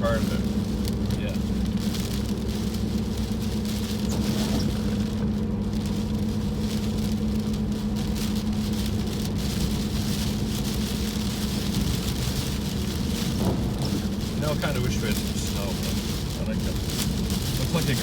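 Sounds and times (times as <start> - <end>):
car engine and road hum: 0.0 - 18.0
rain and wet tyres hissing: 0.0 - 18.0.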